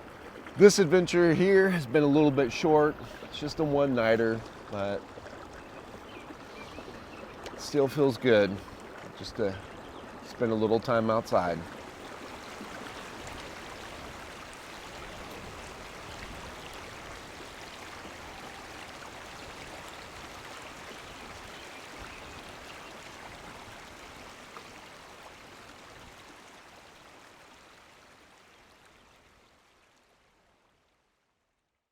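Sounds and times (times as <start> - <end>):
creek water flowing: 0.0 - 31.4.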